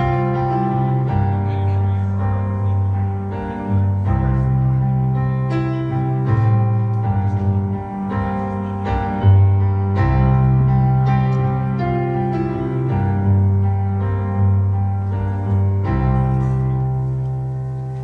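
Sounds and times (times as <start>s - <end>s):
bass line: 0.0s - 18.0s
piano chords: 0.0s - 18.0s
rock band playing slow instrumental: 0.0s - 18.0s.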